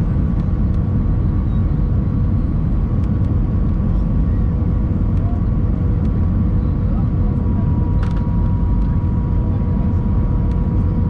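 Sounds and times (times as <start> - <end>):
jet engine roar in cabin: 0.0 - 11.0.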